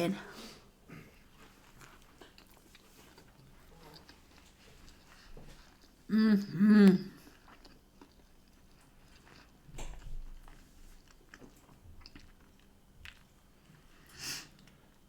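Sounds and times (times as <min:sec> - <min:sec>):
person chewing food: 0:01.0 - 0:15.0.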